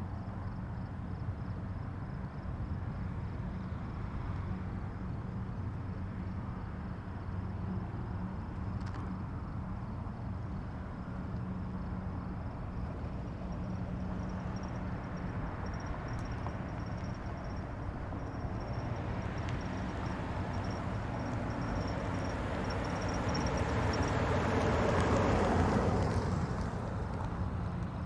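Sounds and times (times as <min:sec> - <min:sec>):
highway traffic rumble: 0:00.0 - 0:28.0.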